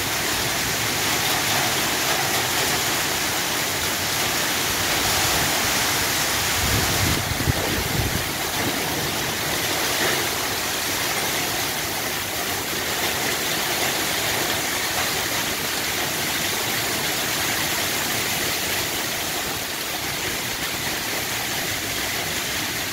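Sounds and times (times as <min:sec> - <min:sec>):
steady rain hiss: 0:00.0 - 0:22.9.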